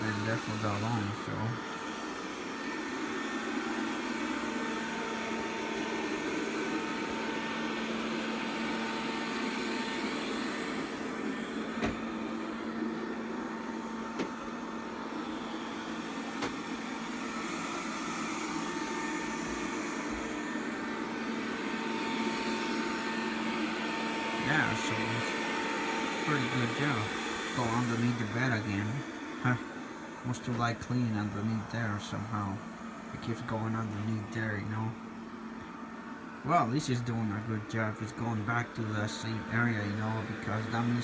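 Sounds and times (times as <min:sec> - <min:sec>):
robot vacuum motor hum: 0:00.0 - 0:35.0, 0:35.6 - 0:41.0.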